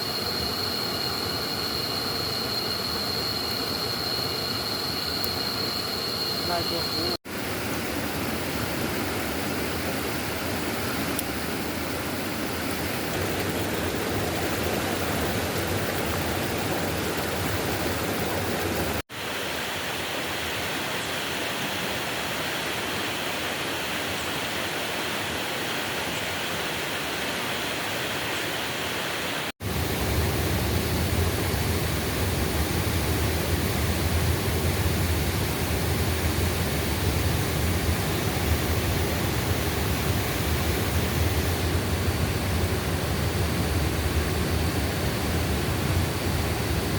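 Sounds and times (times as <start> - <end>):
forest stream rushing: 0.0 - 46.9.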